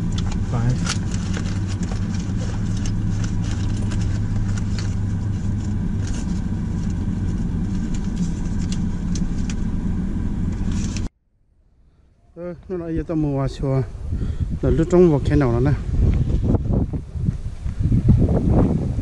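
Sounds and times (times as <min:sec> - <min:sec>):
car engine and road noise: 0:00.0 - 0:12.0, 0:12.6 - 0:19.0.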